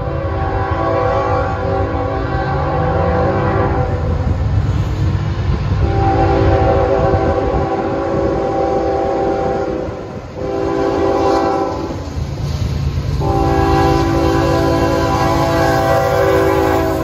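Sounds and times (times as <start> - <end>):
locomotive air horn blasts: 0.0 - 4.3, 5.8 - 12.1, 13.1 - 17.0.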